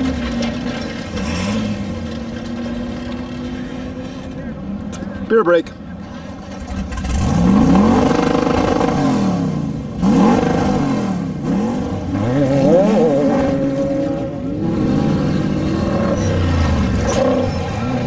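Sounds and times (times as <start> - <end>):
engine revving: 0.0 - 4.3, 6.5 - 18.0.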